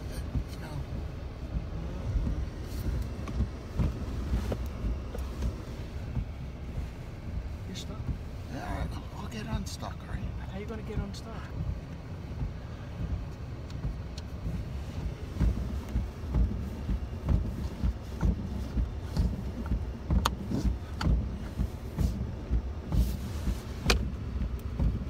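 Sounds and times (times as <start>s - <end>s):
pickup engine low rumble: 0.0s - 25.0s.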